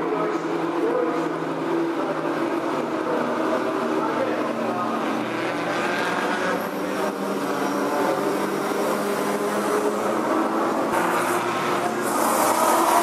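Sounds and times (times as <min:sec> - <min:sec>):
racing car engines running: 0:00.0 - 0:13.0.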